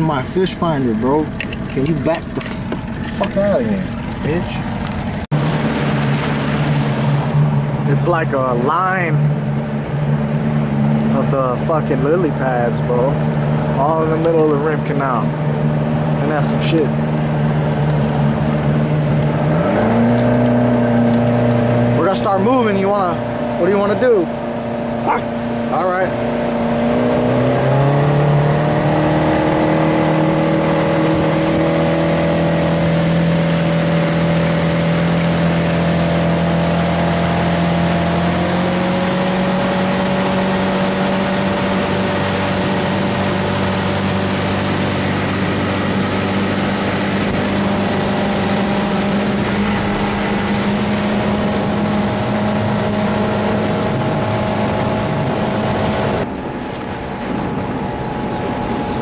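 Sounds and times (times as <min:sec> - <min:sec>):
outboard motor accelerating: 0:00.0 - 0:59.0
wind and water rushing: 0:00.0 - 0:59.0.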